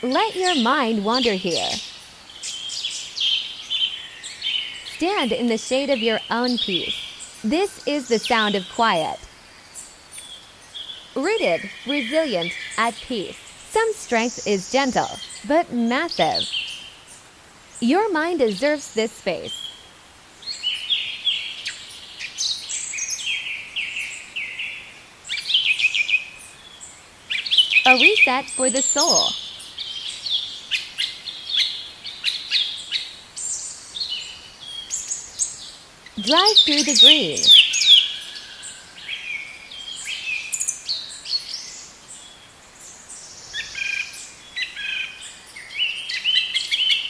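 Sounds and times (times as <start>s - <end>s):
faint outdoor hiss: 0.0s - 47.0s
songbirds singing: 0.0s - 47.0s.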